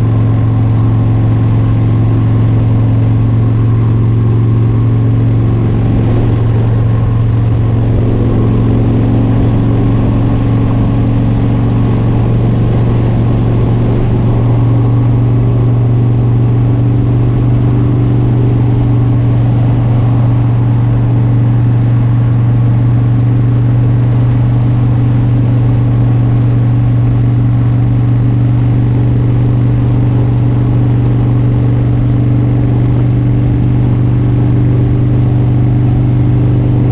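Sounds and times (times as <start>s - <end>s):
motorcycle engine running: 0.0s - 36.9s
wind and road noise: 0.0s - 36.9s.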